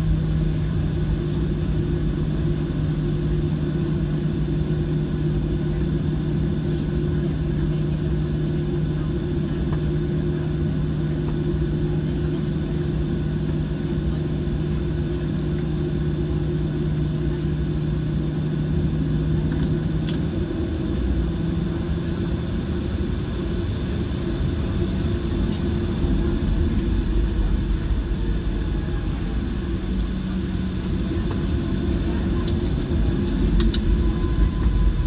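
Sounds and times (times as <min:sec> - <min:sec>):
jet engine hum with whine: 0:00.0 - 0:35.0.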